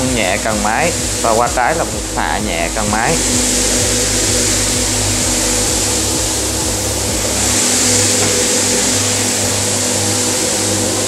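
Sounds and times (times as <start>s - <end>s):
floor scrubber motor humming: 0.0s - 11.0s
rotating brush scrubbing floor: 0.0s - 11.0s.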